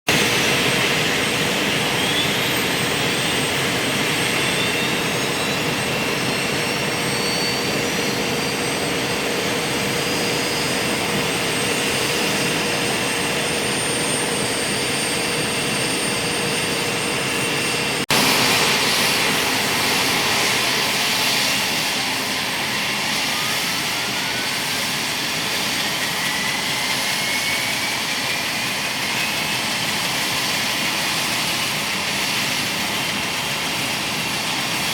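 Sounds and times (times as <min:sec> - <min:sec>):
helicopter turbine engines: 0:00.1 - 0:34.9.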